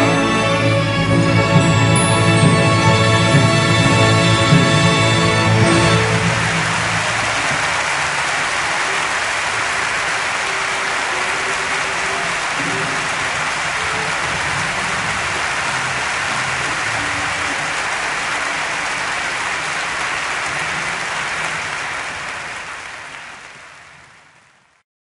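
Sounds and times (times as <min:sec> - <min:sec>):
audience applauding: 0:00.0 - 0:24.8.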